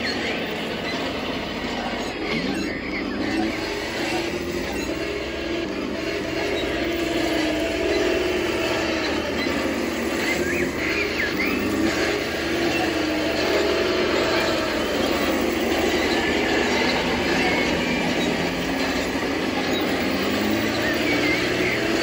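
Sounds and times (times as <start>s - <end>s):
simulated tank engine through speaker: 0.0s - 22.0s.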